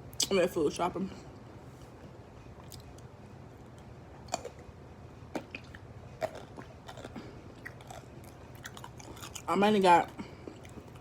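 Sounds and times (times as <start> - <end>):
person chewing food: 2.0 - 11.0.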